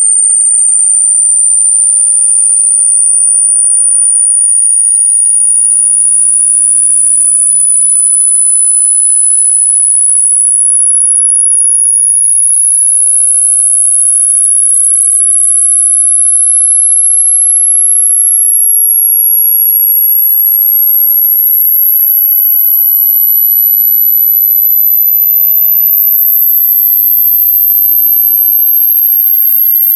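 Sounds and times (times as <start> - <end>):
high-pitched rising sine tone: 0.0 - 29.9.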